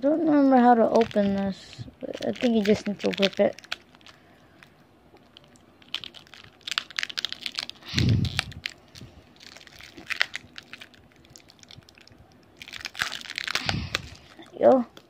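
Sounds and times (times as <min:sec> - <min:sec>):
plastic packet crinkling: 0:00.6 - 0:15.0.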